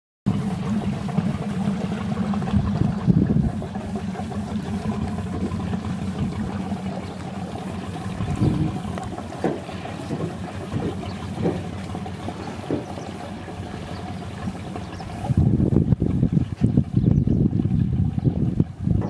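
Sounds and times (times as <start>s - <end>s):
boat engine low rumble: 0.3s - 19.0s.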